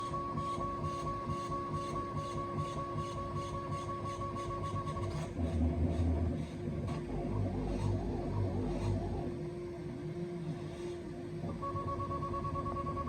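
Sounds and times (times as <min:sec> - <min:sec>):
printer motor whine: 0:00.0 - 0:13.0.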